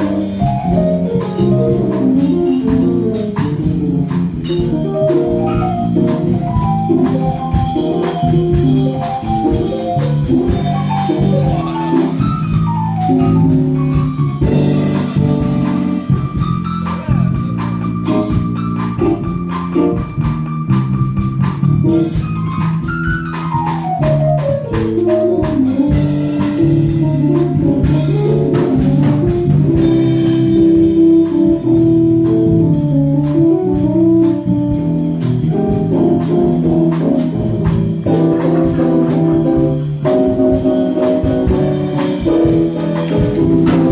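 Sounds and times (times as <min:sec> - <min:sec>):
bass: 0:00.0 - 0:43.9
drums: 0:00.0 - 0:43.9
organ-toned keyboard solo: 0:00.0 - 0:43.9.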